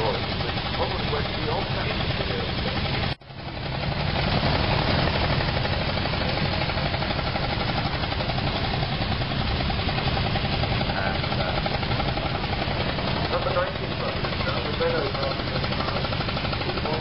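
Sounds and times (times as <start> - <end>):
old car engines chugging: 0.0 - 17.0.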